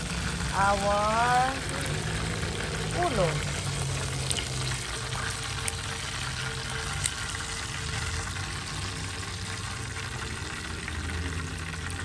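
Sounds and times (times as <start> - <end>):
oil popping: 0.0 - 12.0
oil sizzling in a frying pan: 0.0 - 12.0.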